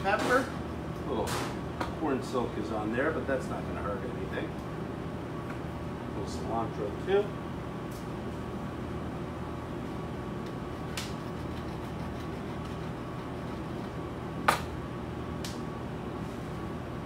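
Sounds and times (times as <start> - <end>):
kitchen ventilation fan humming: 0.0 - 17.0.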